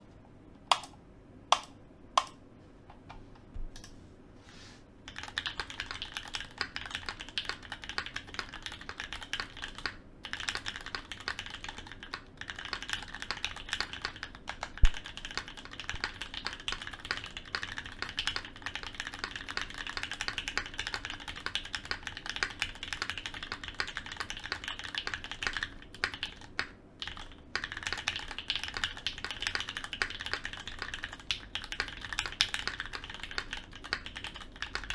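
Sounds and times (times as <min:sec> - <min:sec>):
mechanical keyboard typing: 0:00.7 - 0:02.4, 0:05.1 - 0:34.9.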